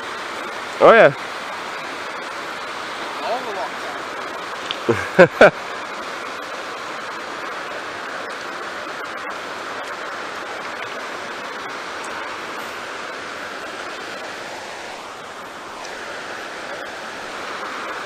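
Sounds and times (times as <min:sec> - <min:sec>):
river rapids over rocks: 0:00.0 - 0:18.0.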